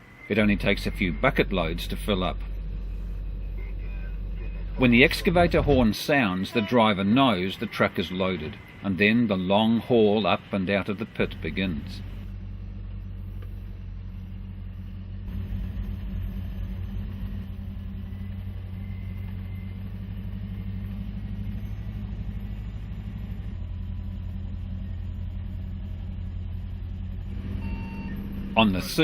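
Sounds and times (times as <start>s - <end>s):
dump truck diesel engine droning: 0.0s - 29.0s.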